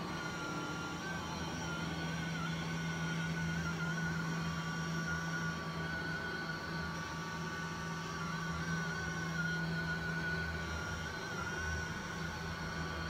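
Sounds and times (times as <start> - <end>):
robot vacuum motor whine: 0.0 - 13.0.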